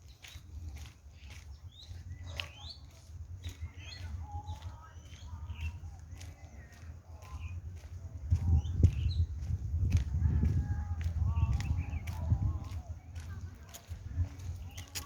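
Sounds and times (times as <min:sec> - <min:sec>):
birds chirping: 0:00.0 - 0:09.6, 0:10.8 - 0:15.0.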